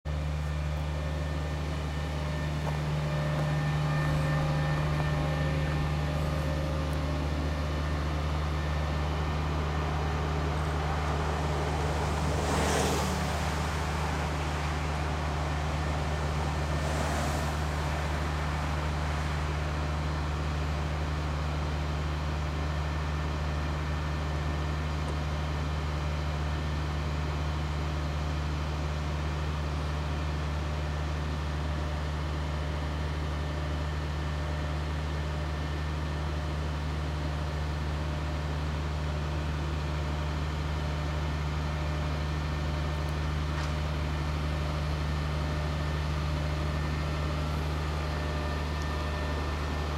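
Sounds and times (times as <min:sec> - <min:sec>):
heavy engine idling: 0:00.0 - 0:49.9.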